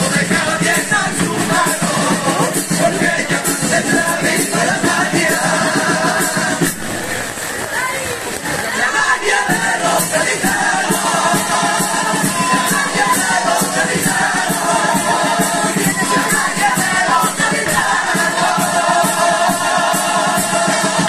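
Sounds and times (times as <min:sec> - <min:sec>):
steady beat: 0:00.0 - 0:07.1, 0:09.0 - 0:21.0
choir singing in close harmony: 0:00.0 - 0:07.2, 0:08.6 - 0:21.0.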